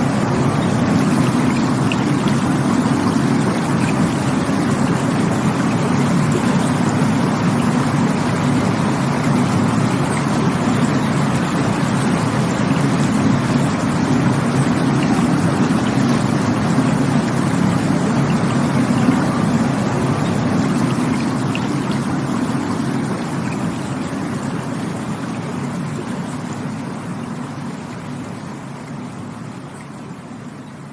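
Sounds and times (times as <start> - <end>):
rushing water: 0.0 - 30.9.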